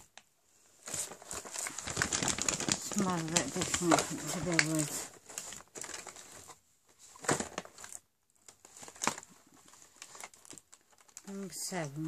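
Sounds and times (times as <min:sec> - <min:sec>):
cardboard rustling and crinkling: 0:00.0 - 0:12.0.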